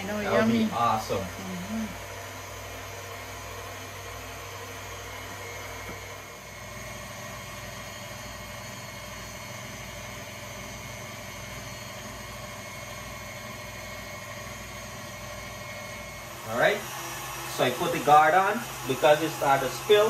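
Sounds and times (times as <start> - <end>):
stand mixer motor hum: 0.0 - 20.0.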